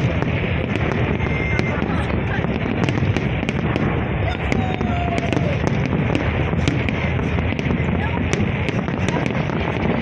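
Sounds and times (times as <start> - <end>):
fireworks crackles and pops: 0.0 - 10.0
fireworks rumbling bursts: 0.0 - 10.0.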